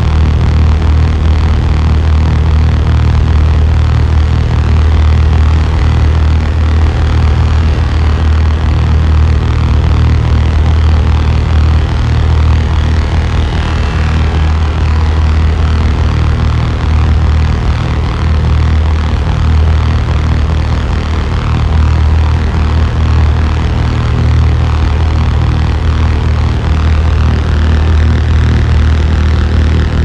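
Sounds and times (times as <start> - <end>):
dense wash of noise: 0.0 - 30.0
loud low drone: 0.0 - 30.0.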